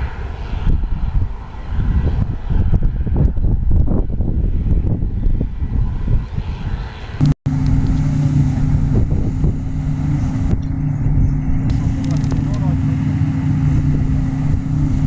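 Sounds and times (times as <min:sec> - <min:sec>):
machinery engine droning: 0:00.0 - 0:15.0.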